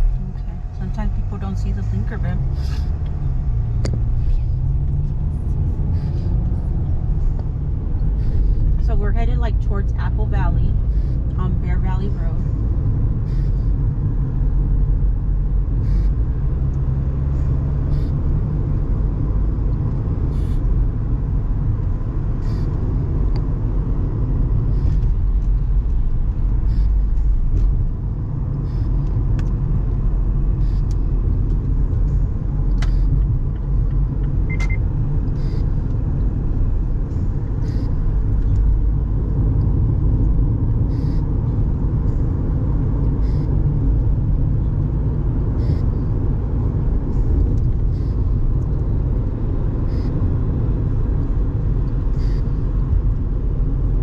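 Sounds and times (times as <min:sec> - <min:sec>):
engine and tyre rumble: 0:00.0 - 0:54.0.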